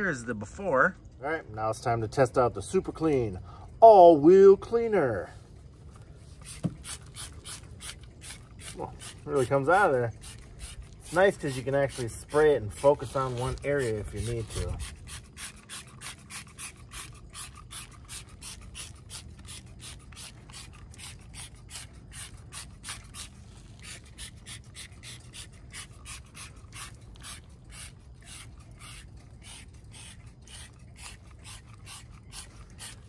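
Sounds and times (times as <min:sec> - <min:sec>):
trigger sprayer hissing: 0:06.3 - 0:33.0.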